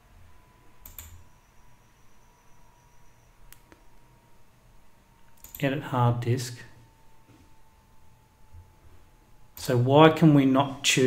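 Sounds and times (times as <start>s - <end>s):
faint low hum: 0.0s - 11.0s
thin high whine: 0.0s - 11.0s.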